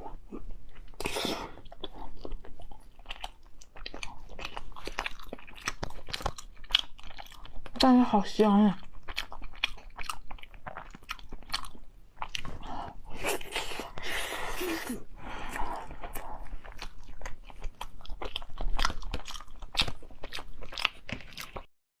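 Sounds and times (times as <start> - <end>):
person chewing food: 0.0 - 7.9, 8.8 - 21.7.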